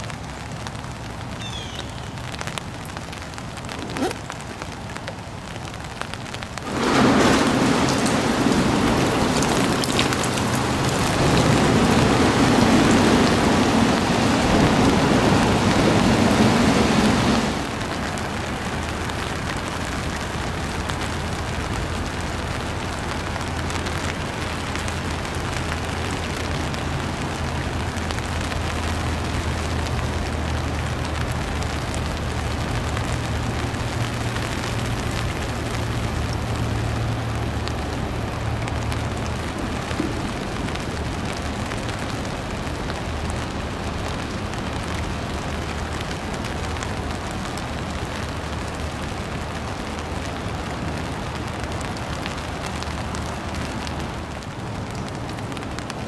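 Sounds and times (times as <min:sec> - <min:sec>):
rain on water: 0:00.0 - 0:56.0.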